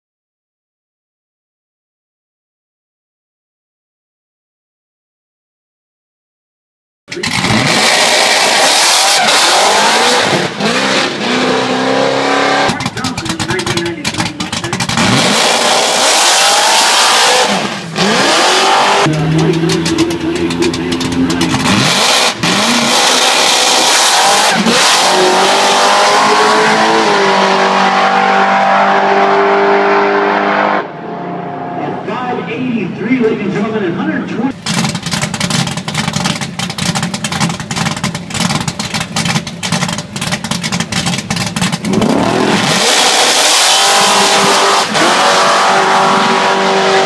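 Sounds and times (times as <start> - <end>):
drag-race engine at full throttle: 7.1 - 47.0.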